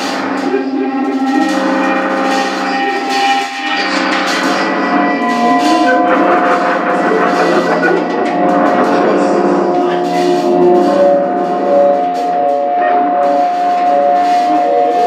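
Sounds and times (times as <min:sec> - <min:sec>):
electric guitar chords: 0:00.0 - 0:15.0
keyboard chords: 0:00.0 - 0:15.0.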